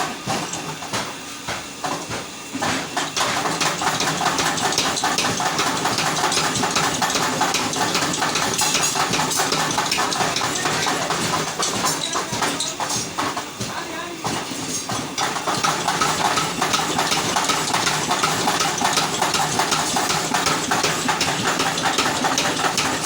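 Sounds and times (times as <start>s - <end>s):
machinery rattling: 2.6s - 23.0s.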